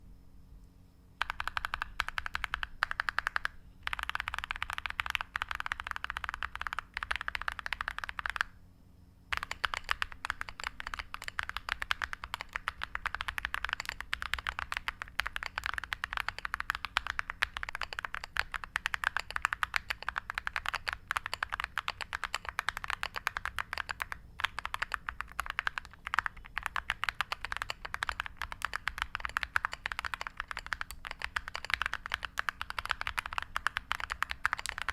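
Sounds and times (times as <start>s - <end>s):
fast mechanical keyboard typing: 1.2s - 8.6s, 9.3s - 34.9s.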